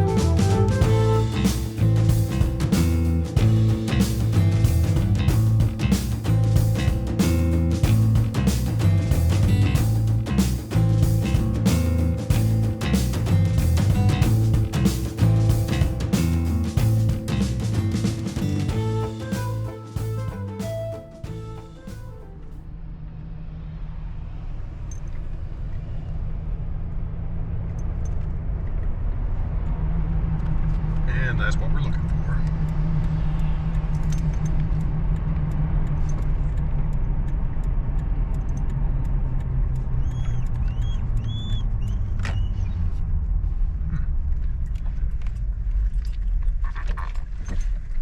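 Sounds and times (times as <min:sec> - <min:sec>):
engine and tyre rumble: 0:00.0 - 0:18.8, 0:22.7 - 0:48.0.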